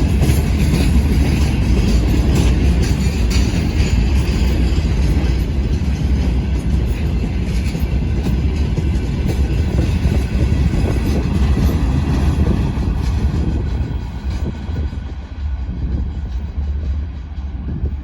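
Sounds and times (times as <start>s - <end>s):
train passing rumble: 0.0s - 18.0s.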